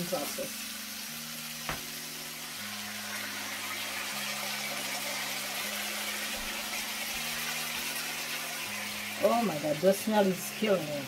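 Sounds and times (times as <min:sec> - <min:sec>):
broth hissing in hot pan: 0:00.0 - 0:11.0.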